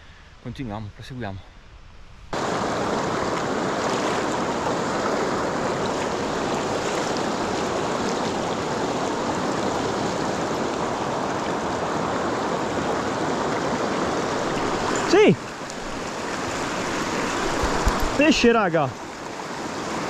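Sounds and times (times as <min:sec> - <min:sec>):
mountain stream rushing: 0:02.3 - 0:20.0.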